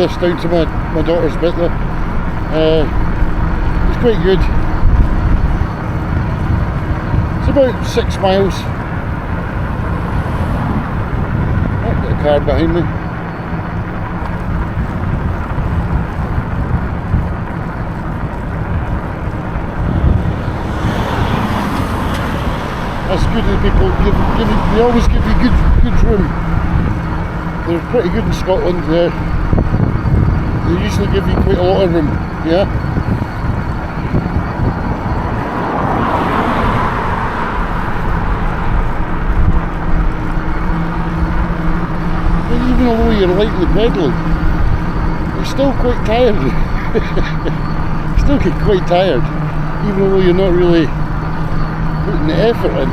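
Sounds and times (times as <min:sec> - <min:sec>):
car overtaking: 0:00.0 - 0:52.9
steady low hum: 0:00.0 - 0:52.9
wind rumbling on microphone: 0:00.0 - 0:52.9.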